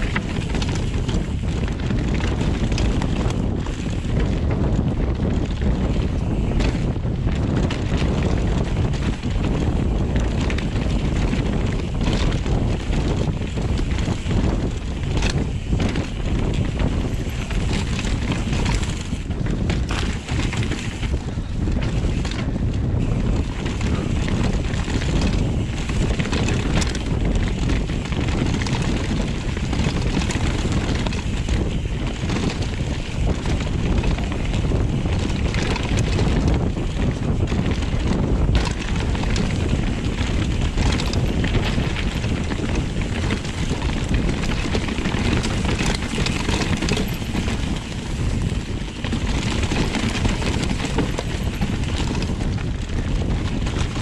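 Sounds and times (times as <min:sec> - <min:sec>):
bike chain and frame rattling: 0:00.0 - 0:54.0
bike tyres rumbling over dirt: 0:00.0 - 0:54.0
wind buffeting microphone: 0:00.0 - 0:54.0.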